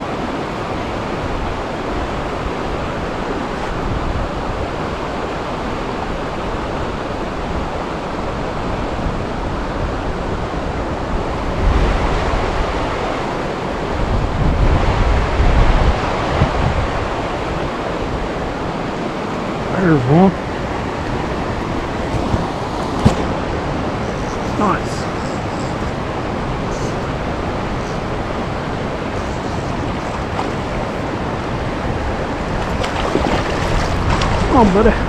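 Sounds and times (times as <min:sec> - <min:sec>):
wind buffeting microphone: 0:00.0 - 0:07.8, 0:13.8 - 0:35.0
stream water rushing: 0:00.0 - 0:14.0, 0:15.1 - 0:35.0.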